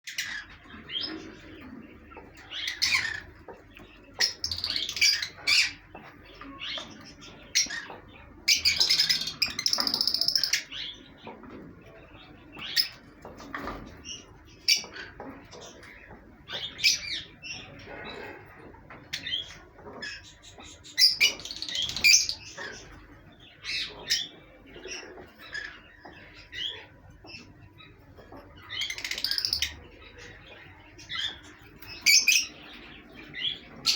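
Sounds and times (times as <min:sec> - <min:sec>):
parrots chirping and squawking: 0:00.1 - 0:33.9.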